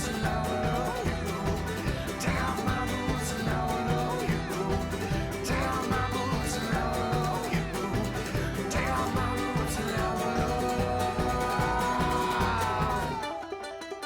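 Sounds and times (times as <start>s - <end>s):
country song with guitar: 0.0s - 14.0s.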